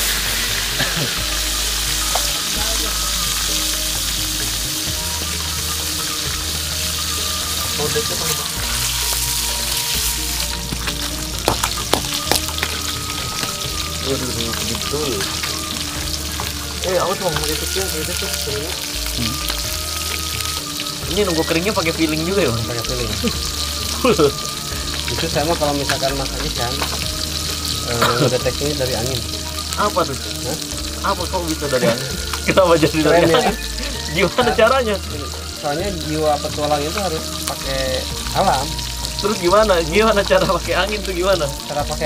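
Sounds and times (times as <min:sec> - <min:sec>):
background music with bass: 0:00.0 - 0:42.0
fish sizzling in hot oil: 0:00.0 - 0:42.0.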